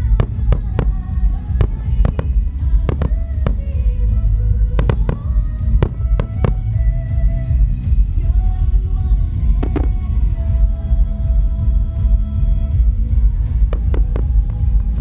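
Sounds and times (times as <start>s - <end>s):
deep continuous rumble: 0.0s - 15.0s
music playing: 0.0s - 15.0s.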